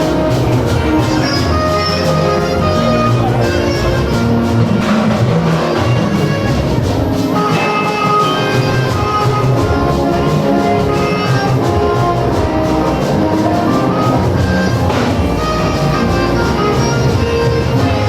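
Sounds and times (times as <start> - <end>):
instrumental music with drums: 0.0 - 18.0.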